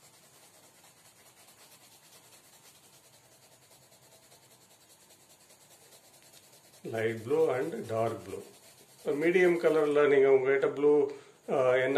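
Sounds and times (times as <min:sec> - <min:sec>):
pencil scratching on paper: 0:00.0 - 0:11.9.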